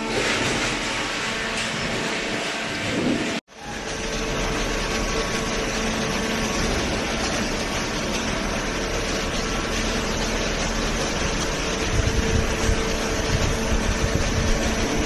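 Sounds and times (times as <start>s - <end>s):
hydraulic motor and pump hum: 0.0s - 15.0s.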